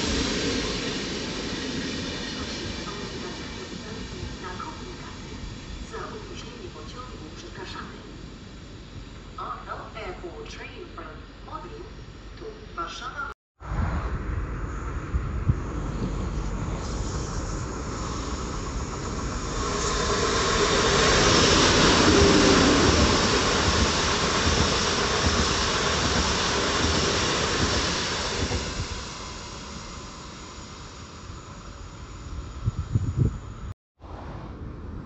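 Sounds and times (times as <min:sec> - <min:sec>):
train passing rushing rail noise: 0:00.0 - 0:10.1, 0:13.6 - 0:35.0.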